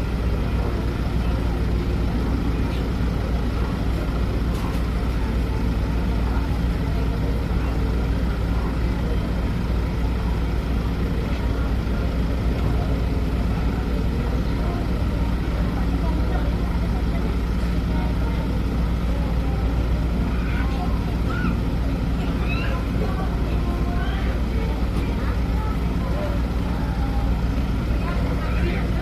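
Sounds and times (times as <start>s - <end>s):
large engine droning: 0.0s - 29.0s.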